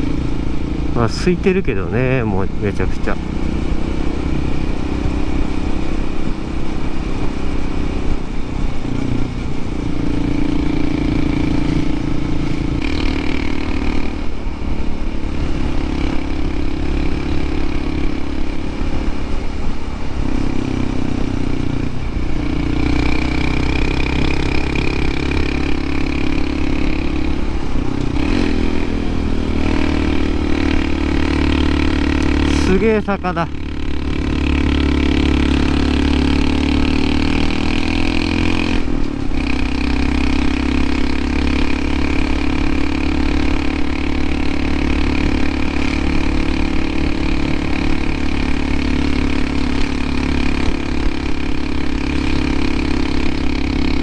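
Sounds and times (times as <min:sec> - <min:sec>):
motorcycle engine under load: 0:00.0 - 0:54.0
road noise: 0:00.0 - 0:54.0.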